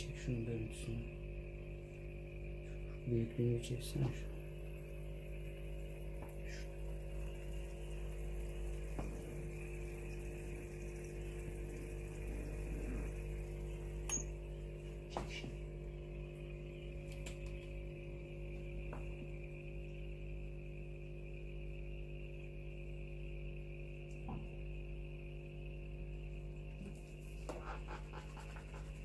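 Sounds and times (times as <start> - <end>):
aquarium filter pump hum: 0.0 - 29.0.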